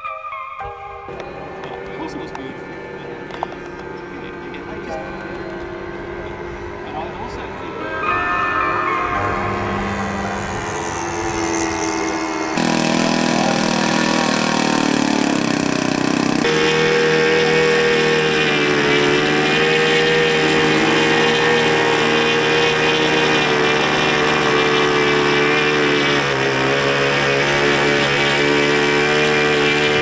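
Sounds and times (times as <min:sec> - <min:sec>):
model airplane engine running: 0:01.1 - 0:30.0.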